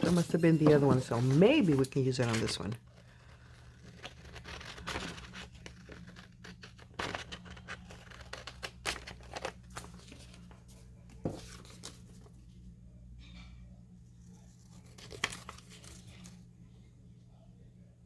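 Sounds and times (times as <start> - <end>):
paper rustling: 0.0 - 12.5, 14.2 - 16.4
low steady hum: 0.0 - 18.0.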